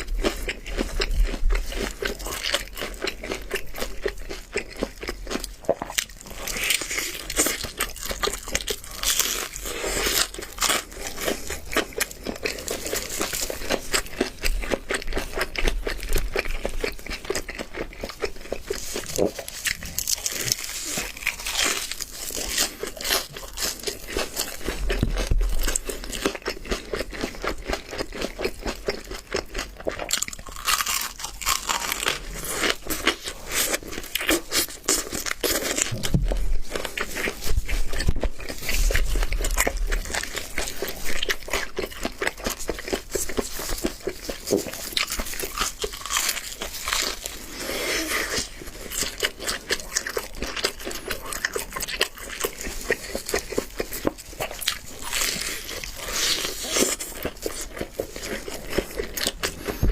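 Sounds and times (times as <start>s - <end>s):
crunching fried chicken: 0.0s - 59.9s.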